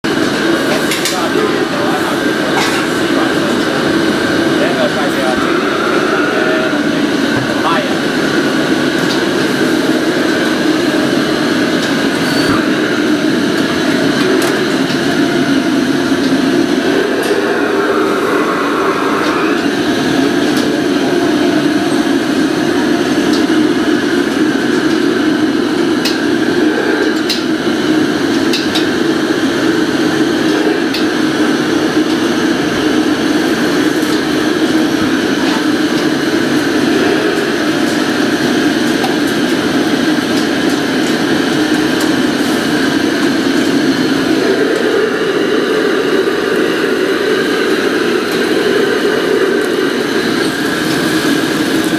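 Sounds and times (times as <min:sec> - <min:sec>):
gas burners roaring: 0:00.0 - 0:51.9.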